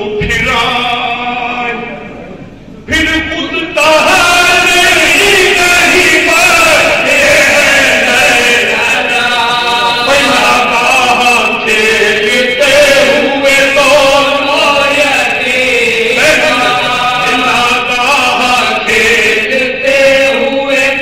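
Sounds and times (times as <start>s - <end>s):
men chanting into microphones: 0.0s - 2.0s, 2.8s - 21.0s.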